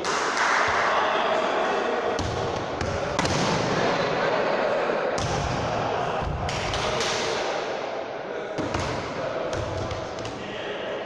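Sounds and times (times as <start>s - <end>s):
echoing hubbub: 0.0s - 11.0s.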